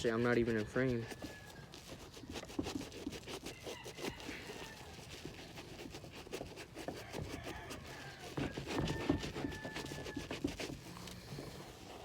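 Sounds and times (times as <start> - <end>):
sponge scrubbing leather: 0.0 - 12.0.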